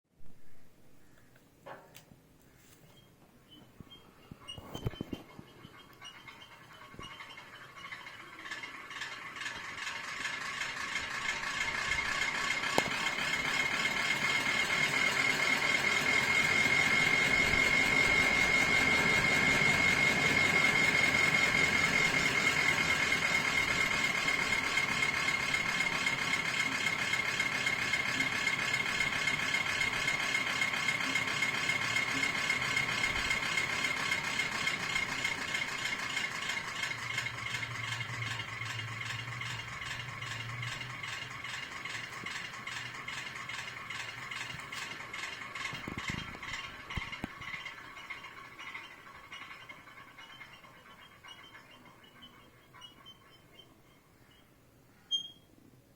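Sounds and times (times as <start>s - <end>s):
electric fan whining and whirring: 1.9s - 55.5s.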